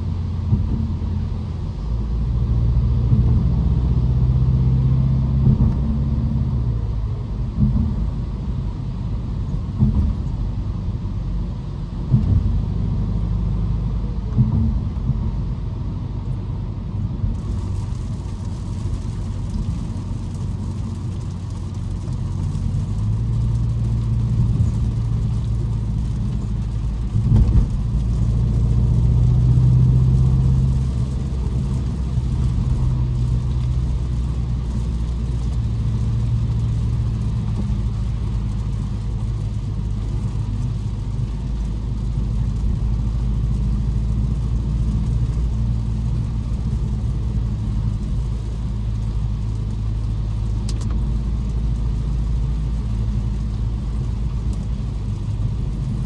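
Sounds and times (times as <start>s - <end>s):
car engine running: 0.0s - 56.0s
tyre noise on wet road: 0.0s - 56.0s.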